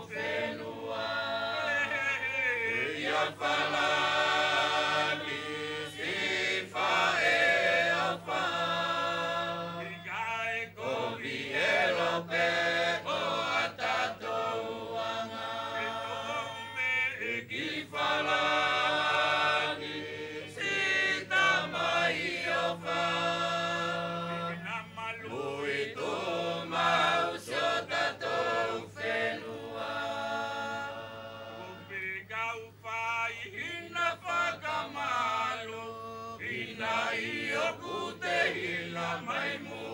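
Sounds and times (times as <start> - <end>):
group singing without instruments: 0.0 - 39.9.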